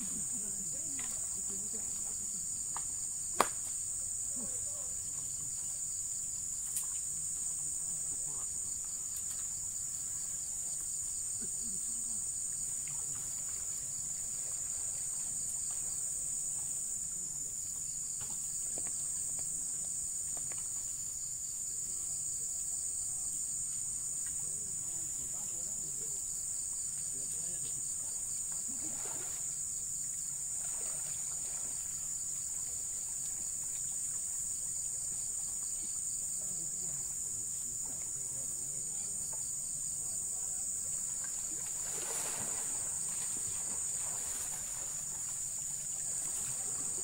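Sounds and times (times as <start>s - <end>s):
insects chorus: 0.0s - 47.0s.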